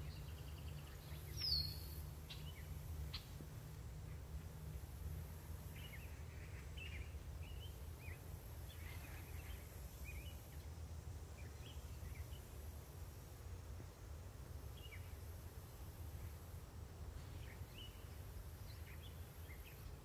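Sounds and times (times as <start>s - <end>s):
small birds chirping: 0.0s - 13.0s, 13.8s - 20.0s
low steady rumble: 0.0s - 20.0s.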